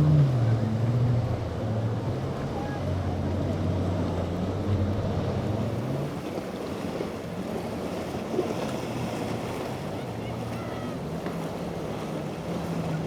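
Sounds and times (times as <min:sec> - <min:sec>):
boat engine droning: 0:00.0 - 0:13.0
waves washing: 0:00.0 - 0:13.0.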